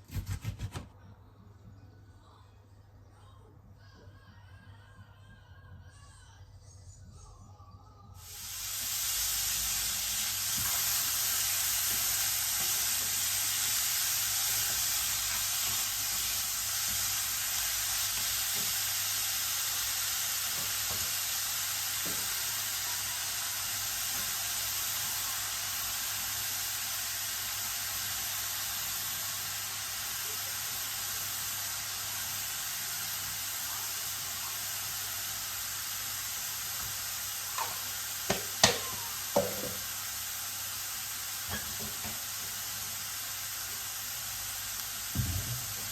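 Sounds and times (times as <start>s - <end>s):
food sizzling in oil: 8.2s - 45.9s.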